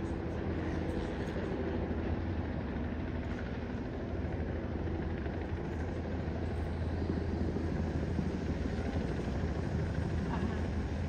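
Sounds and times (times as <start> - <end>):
helicopter engine rumble: 0.0 - 11.0.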